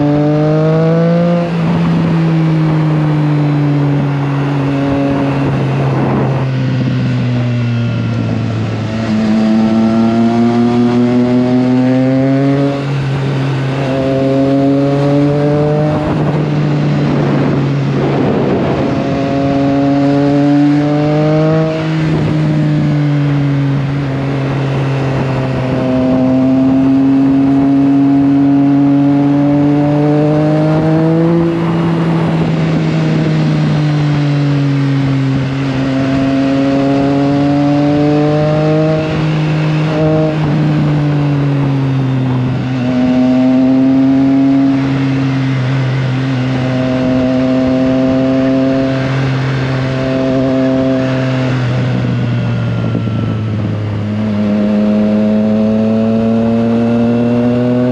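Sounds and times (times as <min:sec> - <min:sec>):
motorcycle engine: 0:00.0 - 0:57.9
wind rush: 0:00.0 - 0:57.9.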